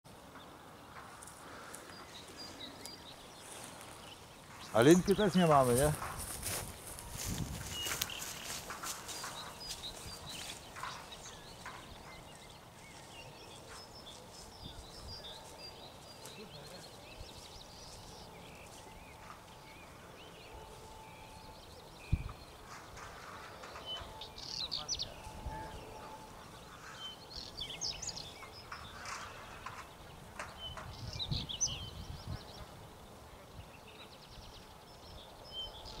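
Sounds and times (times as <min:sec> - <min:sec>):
birds chirping: 0:00.1 - 0:36.0
rustles: 0:00.3 - 0:35.0.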